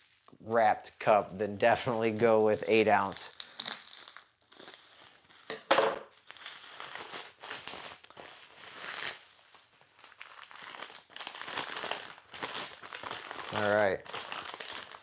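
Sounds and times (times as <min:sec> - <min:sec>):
packing paper crinkling: 0:01.8 - 0:05.5, 0:06.1 - 0:15.0.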